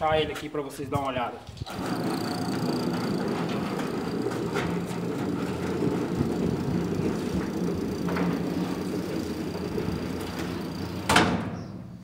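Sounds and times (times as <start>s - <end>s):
gate rattling and clicking: 1.6s - 11.6s
gate motor running: 1.6s - 11.8s.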